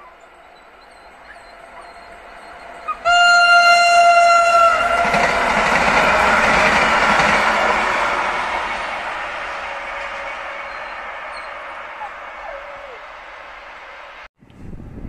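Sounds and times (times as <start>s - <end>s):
train horn: 0.0s - 14.3s
train passing rumble: 0.0s - 15.0s.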